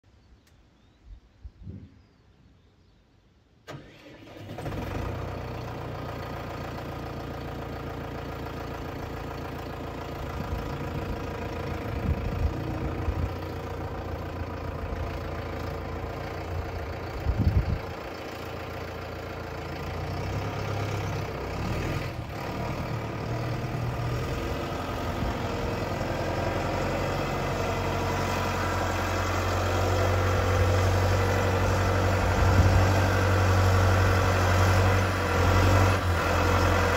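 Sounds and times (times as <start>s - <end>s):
tractor diesel engine: 3.7s - 36.9s.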